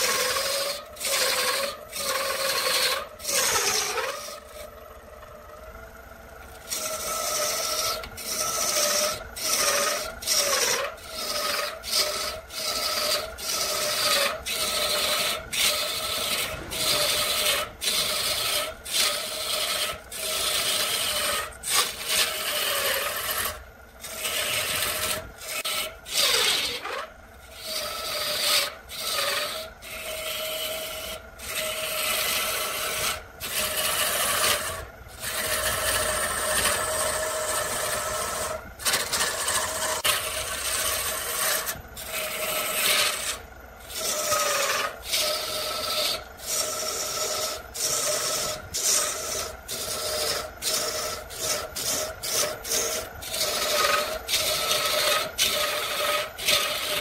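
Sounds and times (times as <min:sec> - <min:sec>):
lathe tool cutting wood: 0:00.0 - 0:05.6, 0:06.5 - 0:57.0
steady lathe tone: 0:00.0 - 0:57.0.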